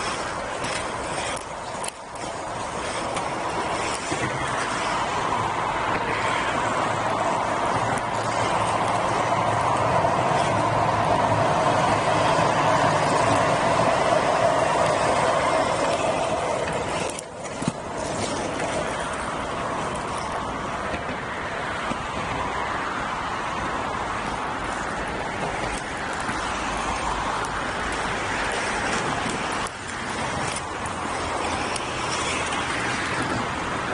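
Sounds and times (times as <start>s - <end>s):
skate wheels rolling on asphalt: 0.0s - 33.9s
urban traffic noise: 0.0s - 33.9s.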